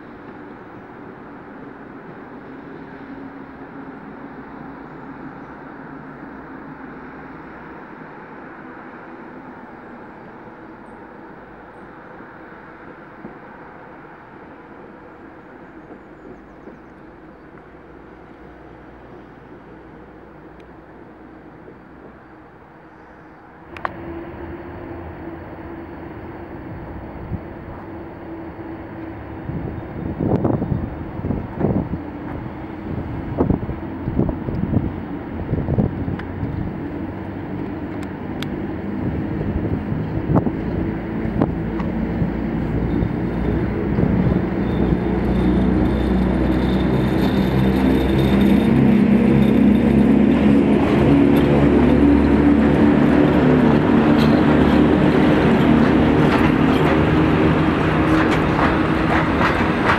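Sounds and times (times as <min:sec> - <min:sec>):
distant electric train humming: 0:00.0 - 0:59.9
train rumbling: 0:00.0 - 0:59.9.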